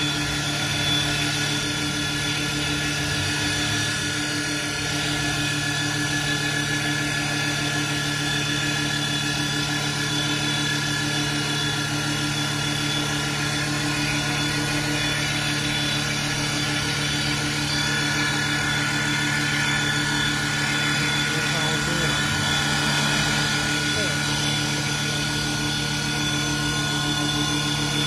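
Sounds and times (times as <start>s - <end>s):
lathe cutting wood: 0.0s - 28.0s
wood lathe motor whine: 0.0s - 28.0s.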